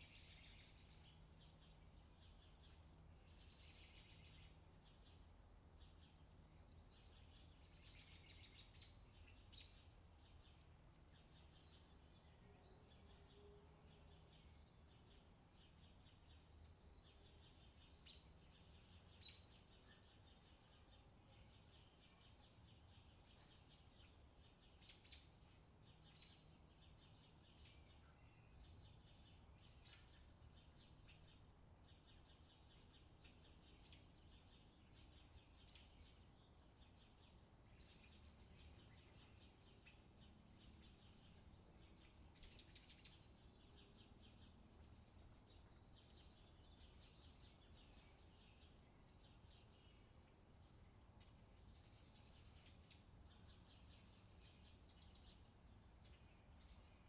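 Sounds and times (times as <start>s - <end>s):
faint bird chirps: 0.0s - 57.0s.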